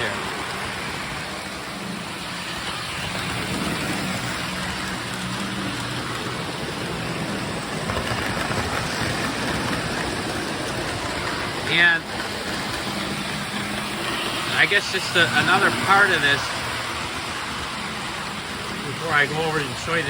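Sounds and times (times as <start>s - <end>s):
toy train wheels rumbling: 0.0s - 20.0s.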